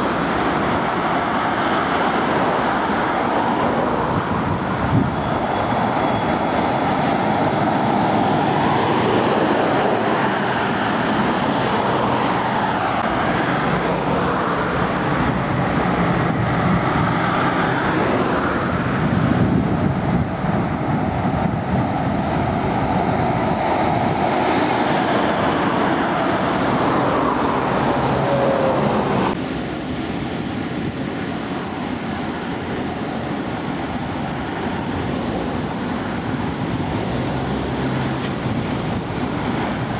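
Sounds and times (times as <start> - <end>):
diesel truck engines: 0.0 - 39.9
tyre and traffic noise: 0.0 - 39.9.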